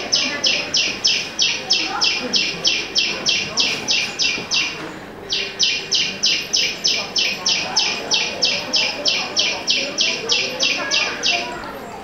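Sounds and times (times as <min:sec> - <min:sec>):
bird chirping: 0:00.1 - 0:11.6.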